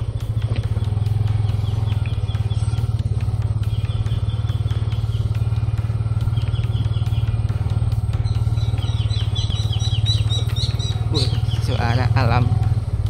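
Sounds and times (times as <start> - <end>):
motorcycle engine running: 0.0 - 13.0
high bird chirps: 1.2 - 12.0.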